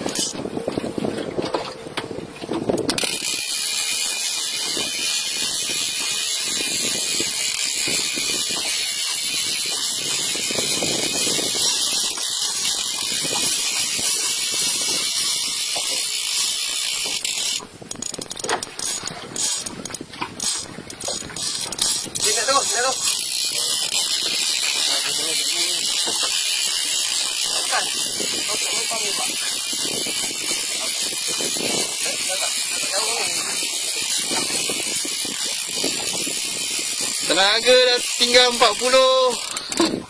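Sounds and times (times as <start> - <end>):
fishing reel clicks: 0.0 - 0.4, 2.7 - 40.0
fishing reel drag buzzing: 0.0 - 0.6, 2.7 - 40.0.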